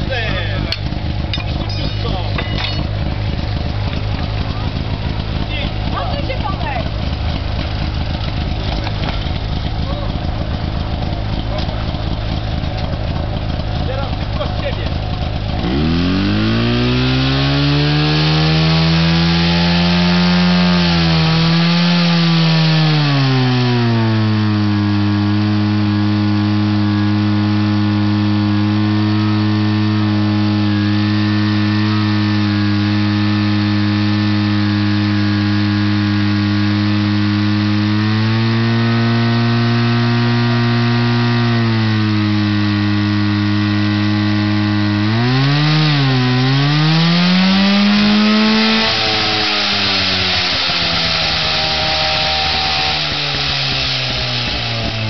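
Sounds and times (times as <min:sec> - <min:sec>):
pump engine revving: 0:00.0 - 0:55.0.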